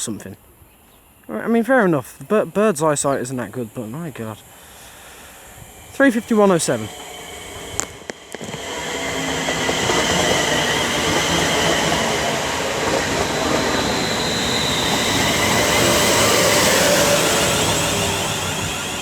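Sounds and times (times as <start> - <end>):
faint electric whining tones: 2.2 - 19.0
train wheels on rails: 2.8 - 19.0.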